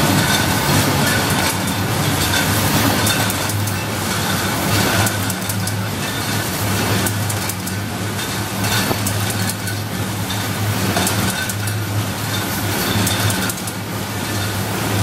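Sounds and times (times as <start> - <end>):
machine humming and clattering: 0.0 - 15.0.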